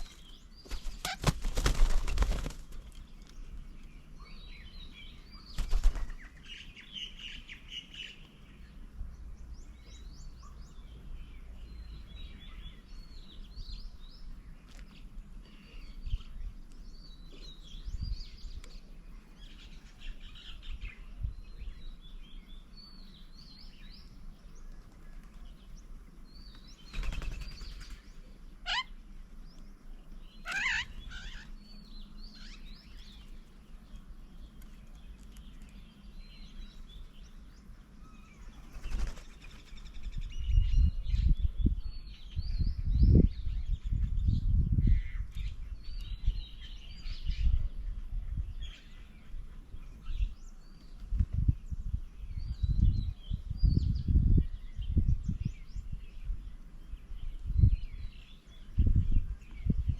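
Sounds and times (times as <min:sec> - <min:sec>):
loud sweeping bird calls: 0:00.0 - 0:14.6, 0:15.4 - 0:59.8
birds chirping: 0:00.0 - 0:59.9.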